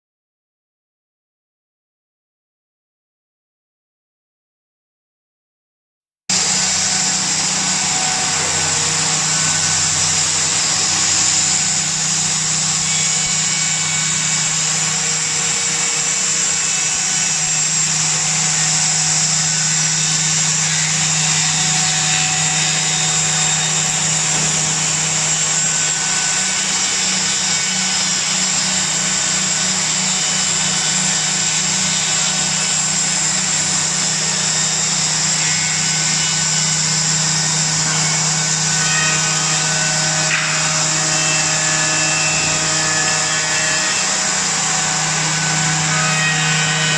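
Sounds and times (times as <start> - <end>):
milling machine drone and whine: 6.3 - 46.9.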